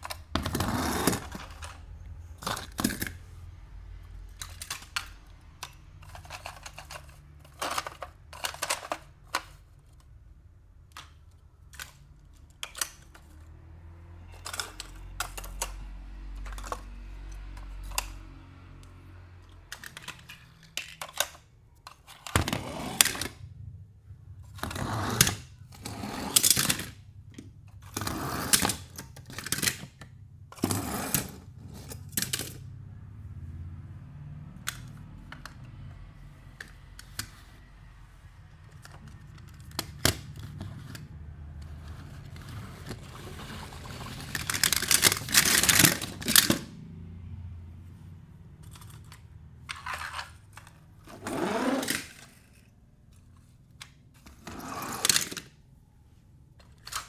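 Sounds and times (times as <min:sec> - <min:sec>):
toy cars clicking and knocking: 0:00.0 - 0:23.5, 0:24.4 - 0:32.8, 0:34.4 - 0:37.6, 0:38.5 - 0:46.8, 0:48.6 - 0:55.6, 0:56.5 - 0:57.0.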